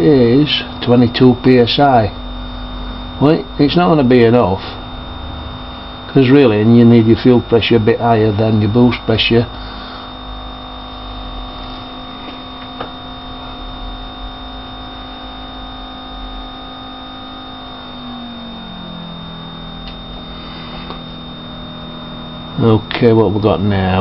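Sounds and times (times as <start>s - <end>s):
electric fuel pump humming: 0.0s - 24.0s.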